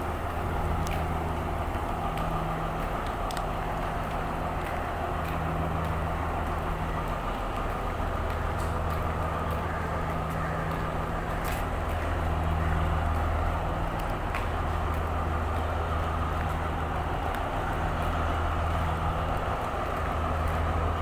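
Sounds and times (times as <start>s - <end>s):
train engine droning: 0.0s - 21.0s
faint clicks: 0.3s - 20.7s.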